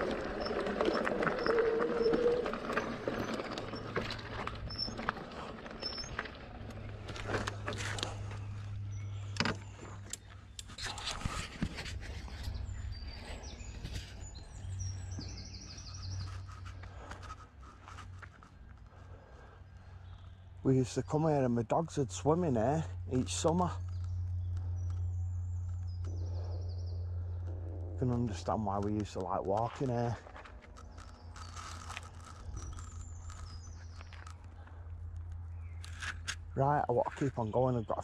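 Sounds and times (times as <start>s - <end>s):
birds chirping and singing: 0.0s - 17.4s, 18.8s - 36.0s, 36.6s - 38.0s
bike rattling on rough trail: 0.0s - 21.6s, 27.2s - 38.0s.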